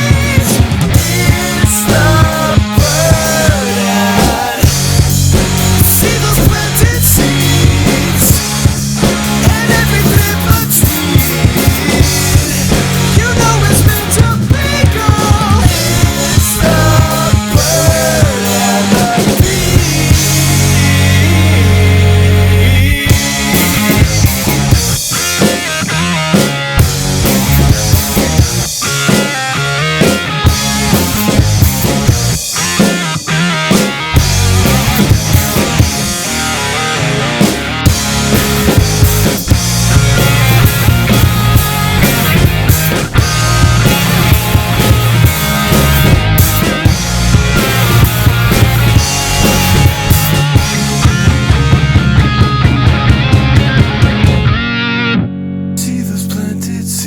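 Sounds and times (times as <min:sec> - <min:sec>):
drum kit: 0:00.0 - 0:55.0
bass: 0:00.0 - 0:57.0
guitars playing: 0:00.0 - 0:57.0.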